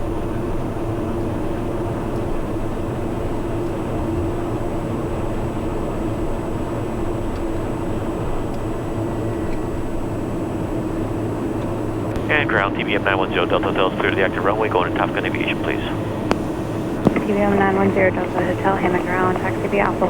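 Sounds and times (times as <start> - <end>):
turboprop engine droning: 0.0 - 20.0.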